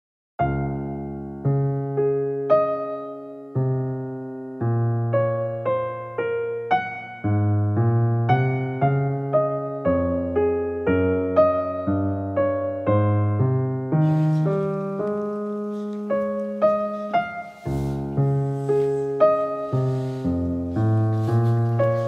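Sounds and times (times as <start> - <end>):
piano music: 0.4 - 22.0.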